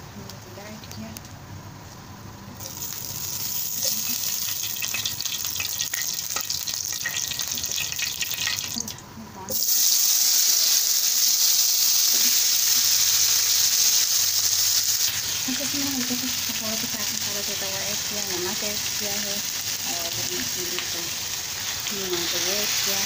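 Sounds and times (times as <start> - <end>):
potatoes frying in oil: 2.6 - 23.0
seeds sizzling in hot oil: 2.6 - 23.0.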